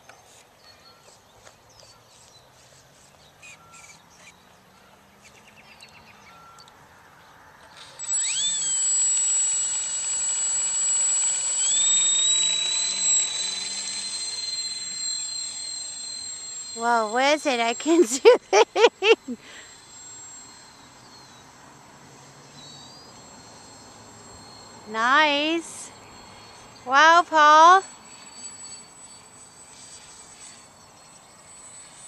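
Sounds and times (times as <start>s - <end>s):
electric motors whining: 0.3s - 32.0s.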